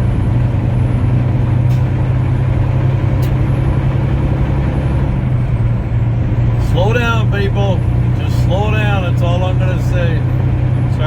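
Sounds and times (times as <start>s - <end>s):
road noise: 0.0s - 11.0s
truck engine droning: 0.0s - 11.0s.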